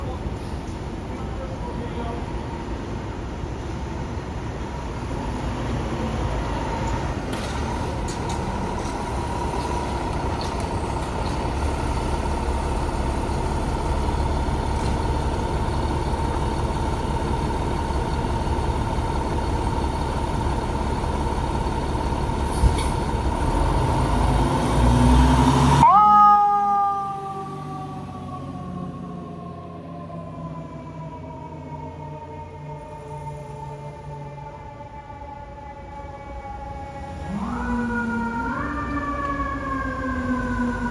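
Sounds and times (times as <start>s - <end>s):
diesel engine whining: 0.0s - 40.9s.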